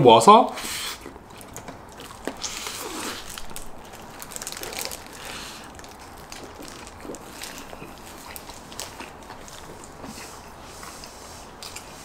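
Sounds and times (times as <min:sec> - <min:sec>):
chewing crispy fried chicken: 0:00.6 - 0:12.0.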